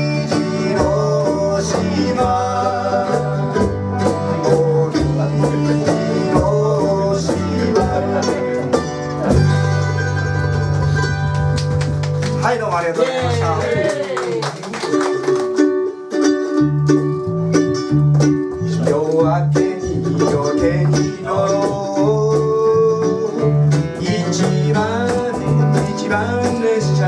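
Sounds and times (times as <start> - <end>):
acoustic bluegrass music: 0.0 - 27.0.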